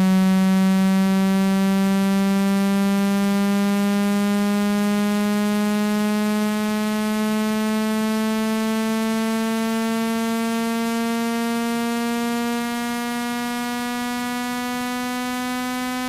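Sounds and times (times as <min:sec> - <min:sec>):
low buzzy electronic tone: 0:00.0 - 0:16.0.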